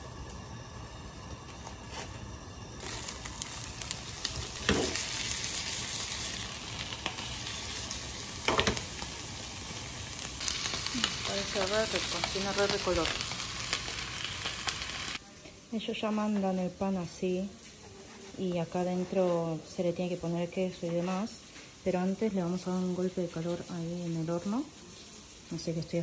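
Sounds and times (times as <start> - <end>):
potatoes sizzling in a frying pan: 0.0 - 15.2, 18.6 - 26.0.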